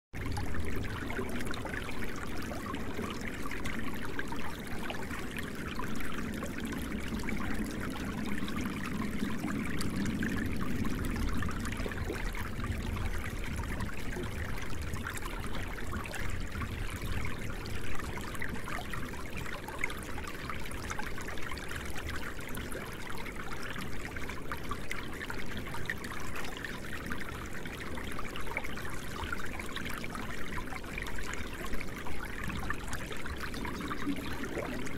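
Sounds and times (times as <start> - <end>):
stream water trickling: 0.2 - 34.9.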